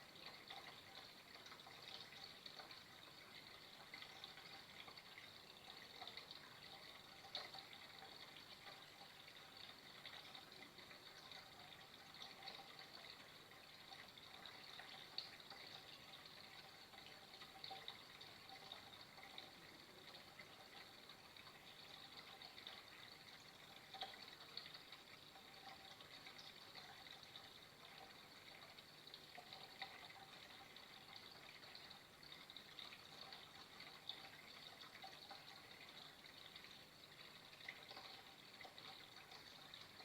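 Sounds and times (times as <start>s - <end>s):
water trickling: 0.0s - 40.0s.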